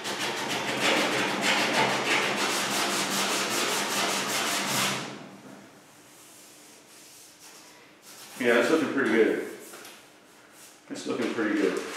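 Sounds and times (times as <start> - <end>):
hand sanding rubbing strokes: 0.0 - 5.2, 6.0 - 11.9.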